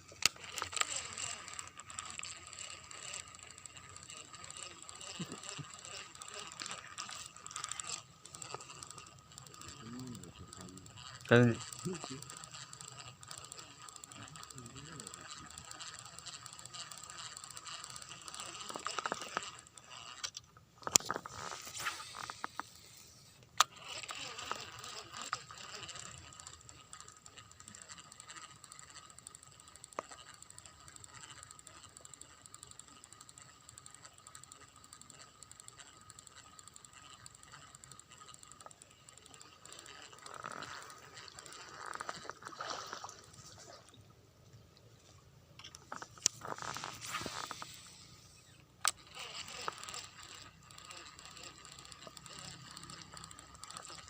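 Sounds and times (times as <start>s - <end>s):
fishing reel ratcheting: 0.0s - 43.8s, 45.5s - 54.0s
sharp reel clicks: 0.0s - 43.8s, 45.5s - 54.0s.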